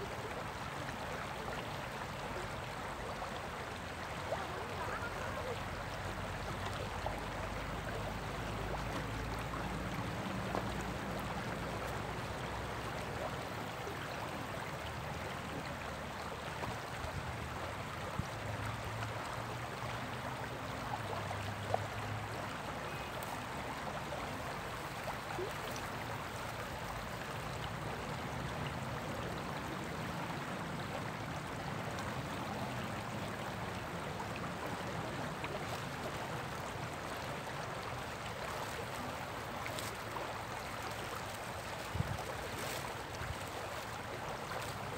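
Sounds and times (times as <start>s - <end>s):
stream rippling over rocks: 0.0s - 44.9s.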